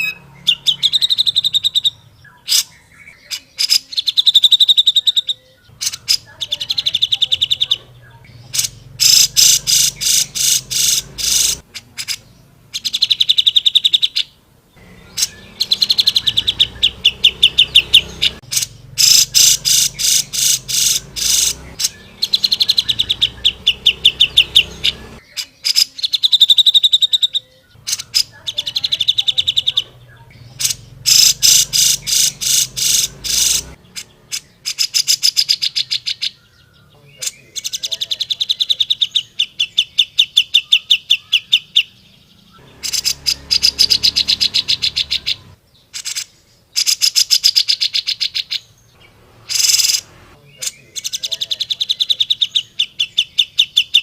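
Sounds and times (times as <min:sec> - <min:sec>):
bird singing chattering trills: 0:00.0 - 0:54.0.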